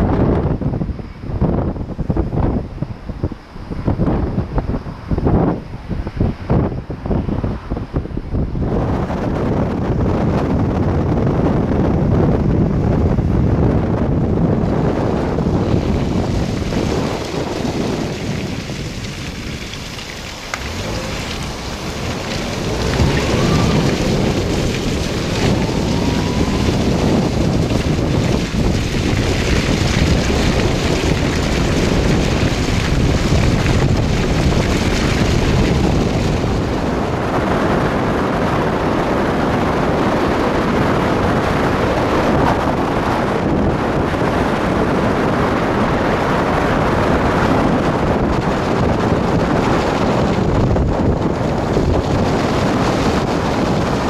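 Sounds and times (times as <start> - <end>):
wind on microphone: 0.0 - 54.0
car tyre noise and splashing: 0.4 - 54.0.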